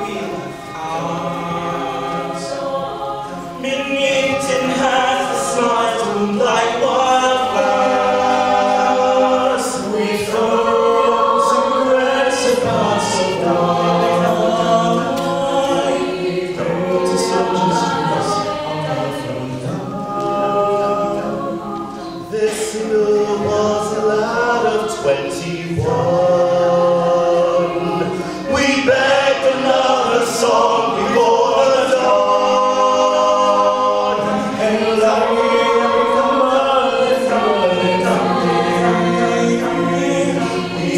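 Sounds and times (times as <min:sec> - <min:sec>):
choir singing held chords: 0:00.0 - 0:40.9.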